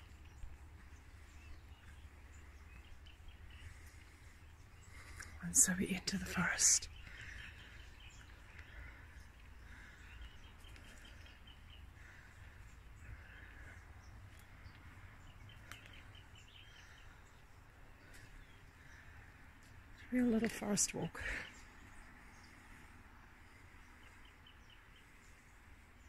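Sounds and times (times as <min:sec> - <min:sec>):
birds calling and trilling: 0:00.0 - 0:26.0.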